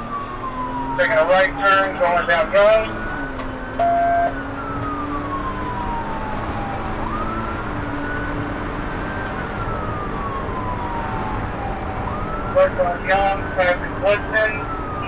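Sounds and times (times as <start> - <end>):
police siren wailing: 0.0 - 15.0
road and engine noise: 0.0 - 15.0.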